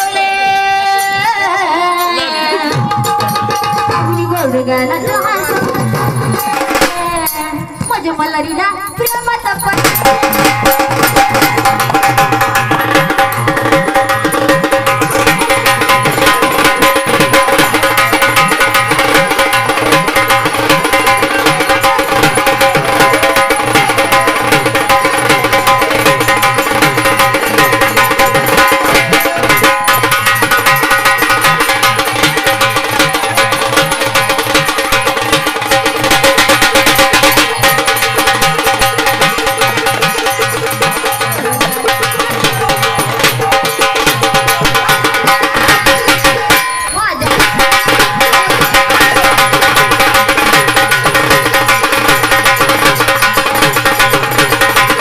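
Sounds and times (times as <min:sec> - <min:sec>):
held melodic notes: 0:00.0 - 0:55.0
fast hand-drum beat: 0:02.6 - 0:55.0.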